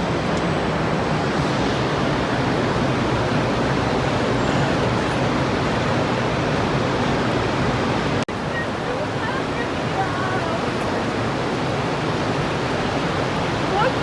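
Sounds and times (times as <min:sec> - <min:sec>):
heavy rain: 0:00.0 - 0:14.0
waterfall rushing: 0:00.0 - 0:14.0.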